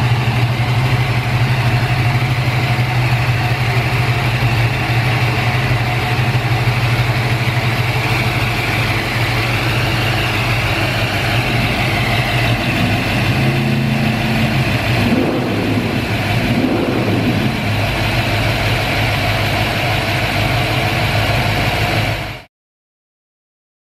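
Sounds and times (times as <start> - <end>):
car engine idling: 0.0 - 22.5.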